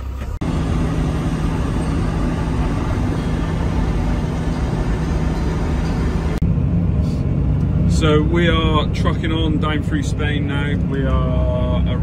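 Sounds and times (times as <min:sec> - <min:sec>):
road and wind noise: 0:00.0 - 0:12.0
truck engine drone: 0:00.0 - 0:12.0.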